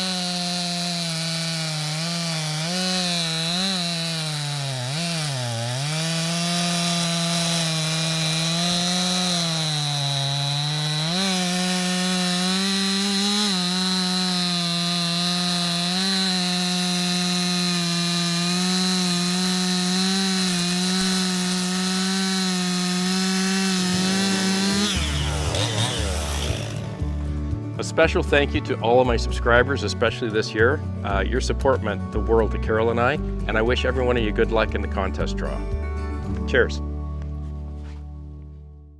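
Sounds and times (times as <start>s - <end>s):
chainsaw cutting logs: 0.0s - 35.5s.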